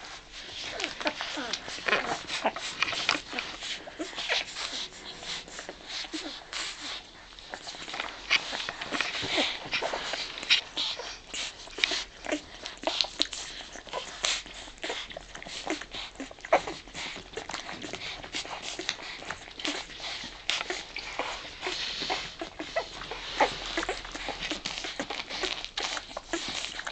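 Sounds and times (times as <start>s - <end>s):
puppies squeaking and whimpering: 0.0s - 26.9s
puppies suckling wet sucking: 0.0s - 26.9s.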